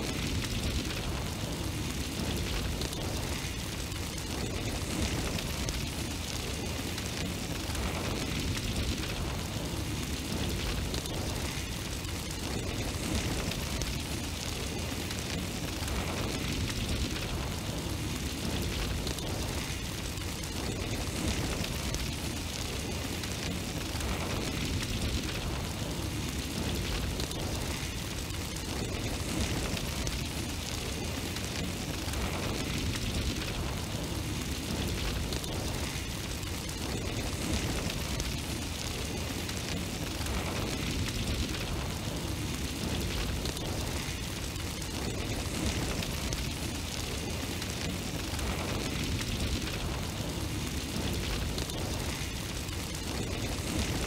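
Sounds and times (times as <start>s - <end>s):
roaring flame rush: 0.0s - 54.0s.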